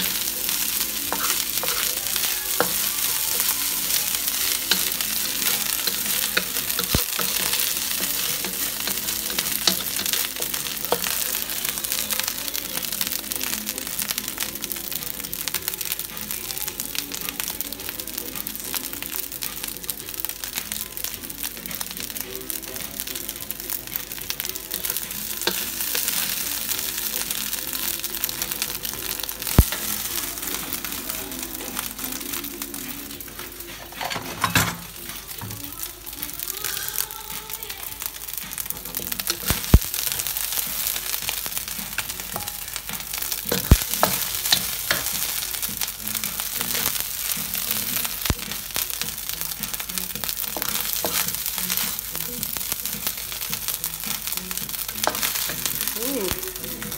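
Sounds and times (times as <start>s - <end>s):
rice sizzling in a hot wok: 0.0s - 56.9s.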